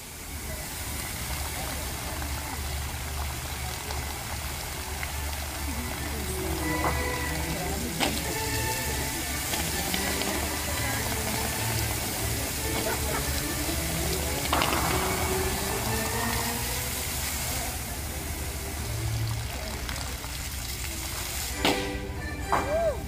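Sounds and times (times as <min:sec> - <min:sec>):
fountain jets hissing and splashing: 0:00.0 - 0:23.0
music: 0:00.8 - 0:23.0.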